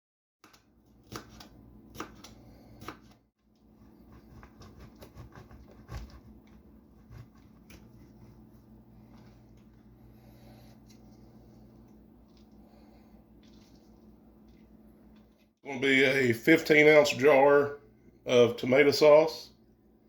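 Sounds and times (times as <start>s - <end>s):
low steady hum: 0.5s - 20.0s.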